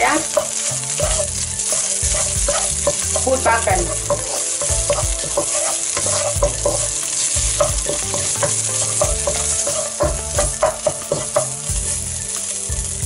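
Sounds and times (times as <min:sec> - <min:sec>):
wooden spatula scraping pan: 0:00.0 - 0:12.0
paste sizzling in oil: 0:00.0 - 0:13.0.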